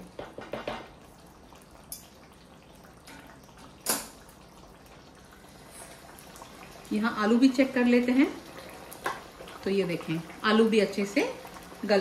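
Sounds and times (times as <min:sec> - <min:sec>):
curry simmering in a pot: 0:00.0 - 0:12.0.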